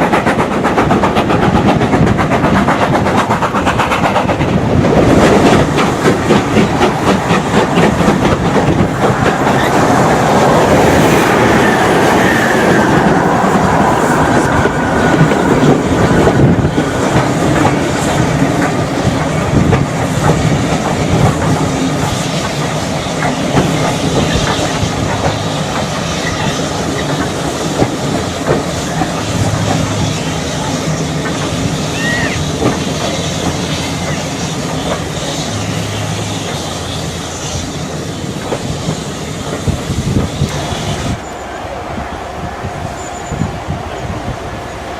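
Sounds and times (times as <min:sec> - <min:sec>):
steam train wheels clattering: 0:00.0 - 0:44.9.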